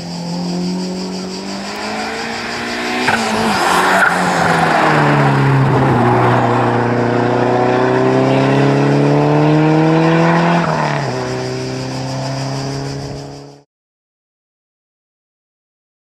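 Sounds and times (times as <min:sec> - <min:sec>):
rally car engine accelerating: 0:00.0 - 0:13.6.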